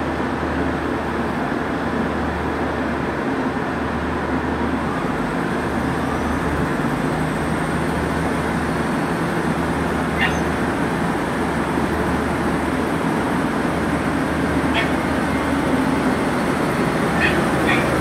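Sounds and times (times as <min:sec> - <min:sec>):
diesel train engines rumbling: 0:00.0 - 0:18.0.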